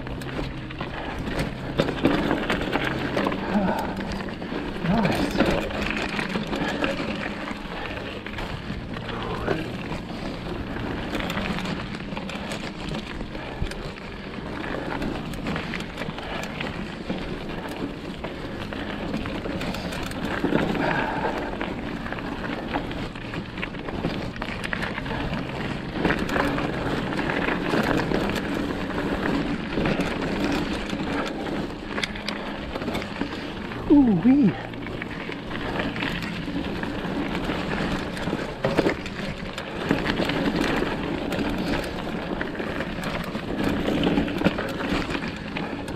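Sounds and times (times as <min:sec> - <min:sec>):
bike rattling and clicking: 0:00.0 - 0:45.9
bike tyres on dirt: 0:00.0 - 0:45.9.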